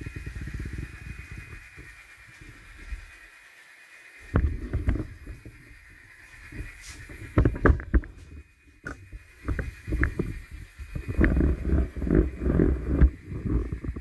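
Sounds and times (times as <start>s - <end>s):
faint motor whine: 0.0s - 14.0s
low rumble of model trains: 0.0s - 14.0s
model train wheels clicking on track: 0.0s - 14.0s.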